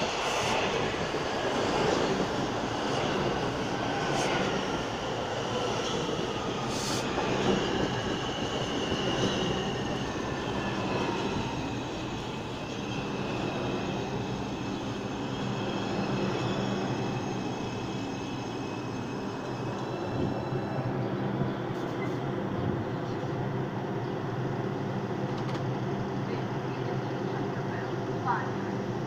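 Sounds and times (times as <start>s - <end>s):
train wheels squealing on rails: 0.0s - 23.4s
subway train rumbling: 0.0s - 29.0s.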